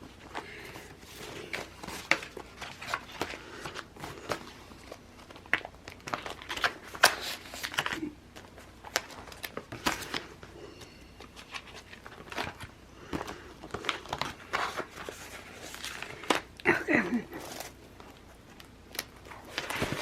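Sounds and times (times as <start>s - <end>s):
paper crinkling and rustling: 0.0s - 16.6s, 17.3s - 20.0s.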